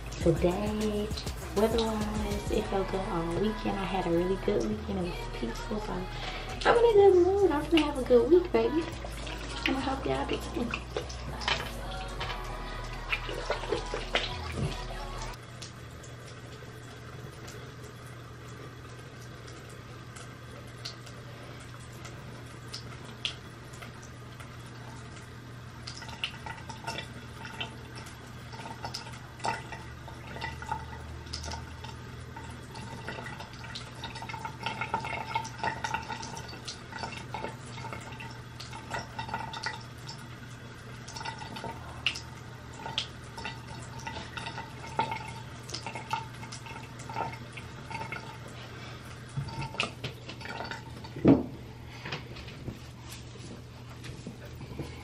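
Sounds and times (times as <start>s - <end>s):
steady low hum: 0.0s - 55.0s
water dripping and splashing: 0.0s - 55.0s.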